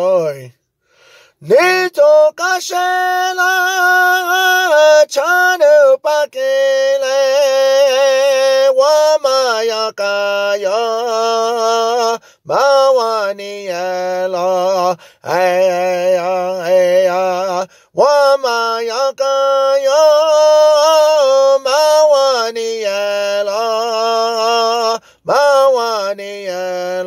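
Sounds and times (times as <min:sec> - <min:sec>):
person singing unaccompanied: 0:00.0 - 0:00.6, 0:01.3 - 0:27.0.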